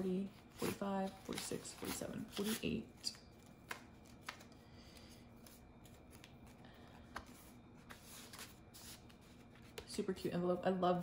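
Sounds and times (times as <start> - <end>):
banknotes rustling: 0.0 - 10.0.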